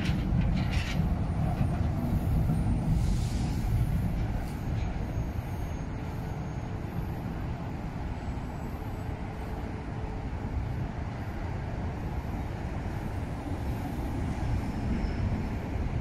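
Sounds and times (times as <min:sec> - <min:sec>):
subway train rumbling along track: 0:00.0 - 0:16.0.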